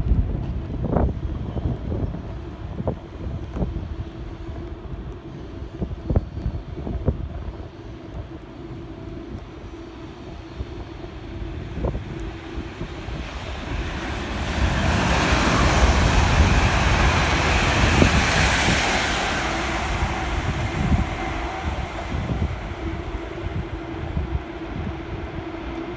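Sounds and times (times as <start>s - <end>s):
train passing with rushing rumble: 0.0s - 25.9s
wind noise on microphone: 0.0s - 25.9s.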